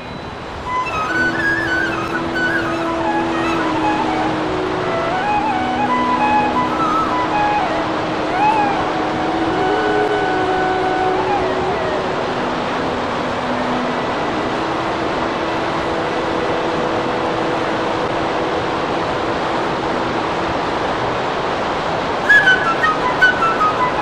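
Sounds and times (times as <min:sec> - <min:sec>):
fast-flowing water rushing: 0:00.0 - 0:24.0.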